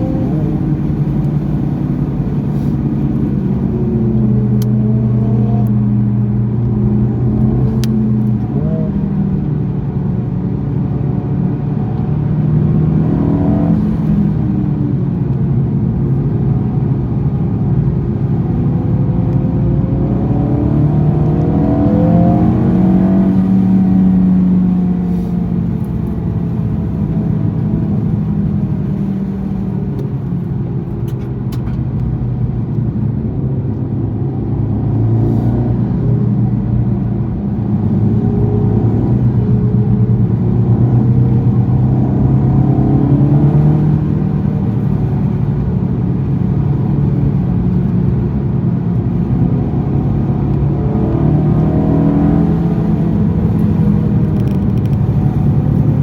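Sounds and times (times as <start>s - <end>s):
turbocharged car engine accelerating: 0.0s - 56.0s.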